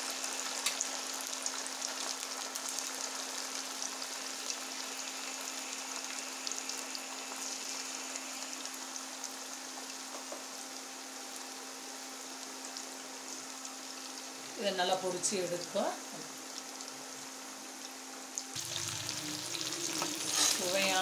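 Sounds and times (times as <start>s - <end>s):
chicken deep-frying in oil: 0.0s - 21.0s
faint steady hum: 0.3s - 21.0s.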